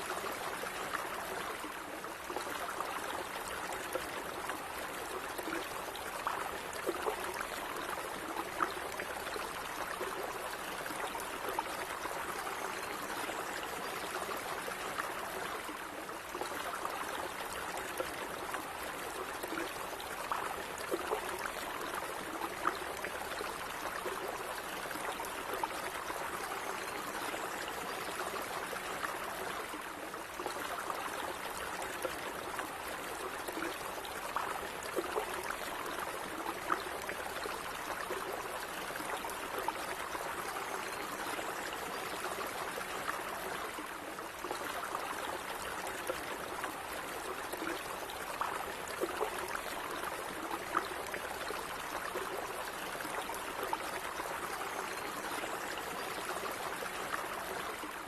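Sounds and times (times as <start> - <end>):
stream babbling and gurgling: 0.0 - 58.0.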